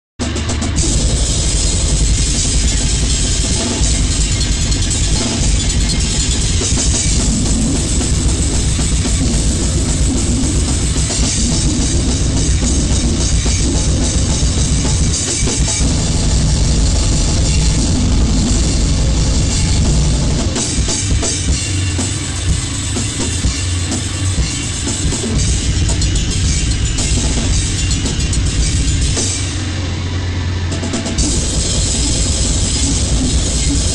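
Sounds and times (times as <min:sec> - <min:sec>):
drums: 0:00.0 - 0:33.9
distorted noise: 0:00.2 - 0:33.9.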